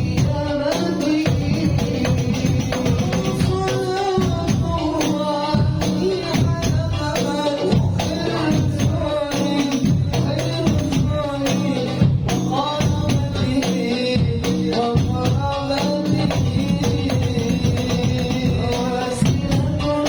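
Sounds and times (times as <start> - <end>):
frame drums with jingles: 0.0 - 20.0
voices singing: 0.0 - 20.0.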